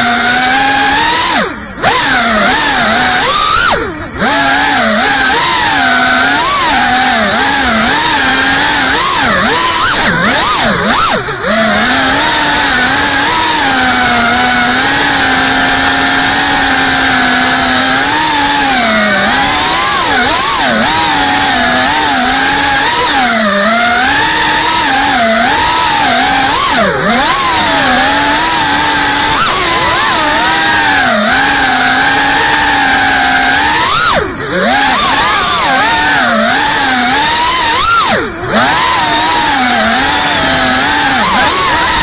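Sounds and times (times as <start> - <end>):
drone motors whining: 0.0 - 42.0.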